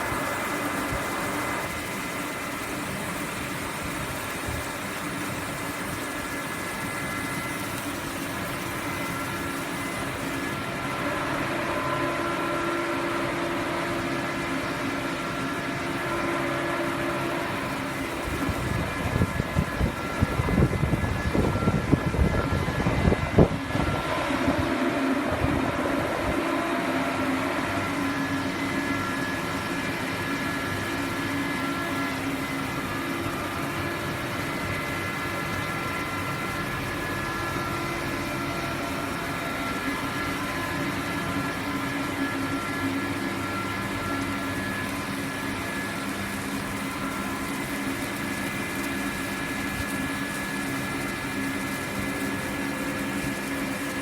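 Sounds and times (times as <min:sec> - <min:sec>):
laser cutting machine hum: 0:00.0 - 0:54.0
whining tones: 0:05.8 - 0:54.0.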